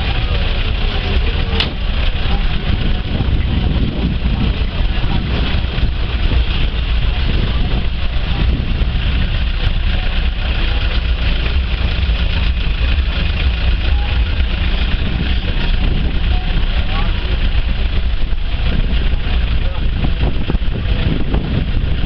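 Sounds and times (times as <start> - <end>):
faint voices: 0.0 - 22.0
outdoor background hubbub: 0.0 - 22.0
wind buffeting microphone: 0.0 - 22.0.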